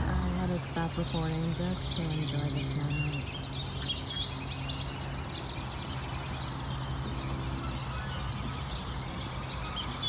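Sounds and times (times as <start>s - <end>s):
low outdoor hum: 0.0s - 10.0s.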